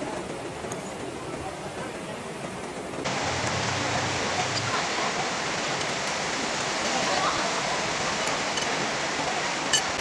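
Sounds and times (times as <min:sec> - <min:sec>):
steady rainfall: 0:00.0 - 0:10.0.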